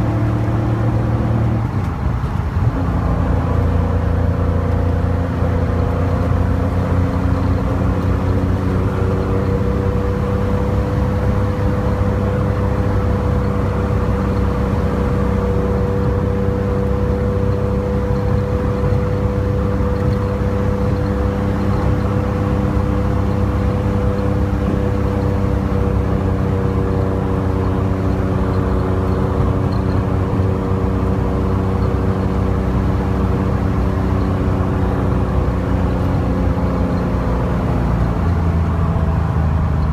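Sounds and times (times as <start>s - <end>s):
car engine cruising: 0.0s - 39.9s
road and wind noise: 0.0s - 39.9s.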